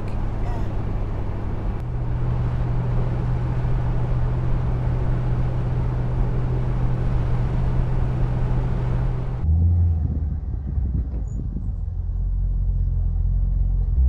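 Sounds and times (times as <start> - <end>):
car engine cruising: 0.0 - 14.0
road and wind noise: 0.0 - 14.0.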